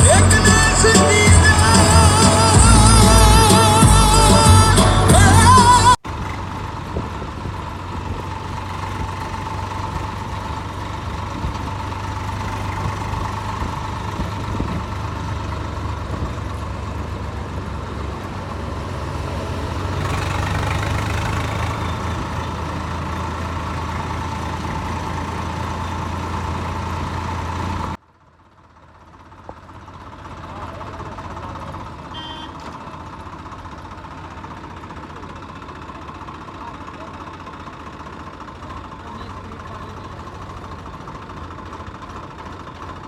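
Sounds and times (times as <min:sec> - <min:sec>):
engine running: 0:00.0 - 0:43.0.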